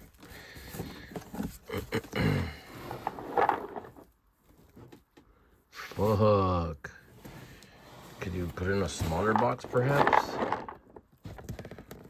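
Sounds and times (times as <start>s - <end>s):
cardboard rustling and scraping: 0.0s - 5.2s, 7.1s - 12.0s.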